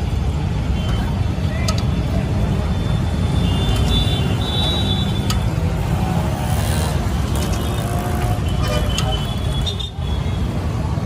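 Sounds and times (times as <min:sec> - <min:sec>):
rumble of passing motorbikes: 0:00.0 - 0:11.0.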